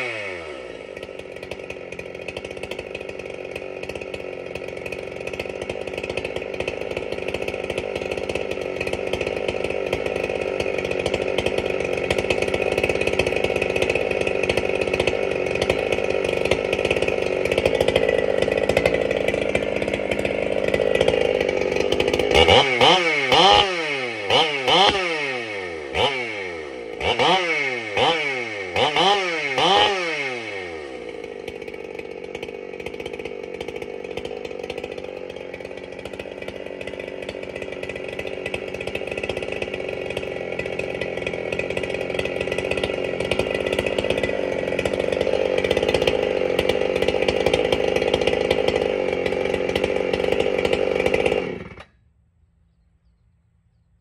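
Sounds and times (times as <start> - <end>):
chainsaw idling and revving: 0.0 - 52.2.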